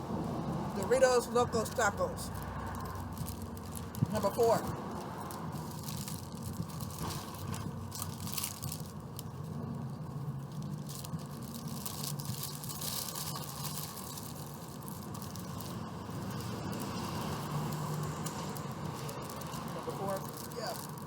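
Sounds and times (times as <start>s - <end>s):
crunchy tacos being chewed: 1.7s - 21.0s.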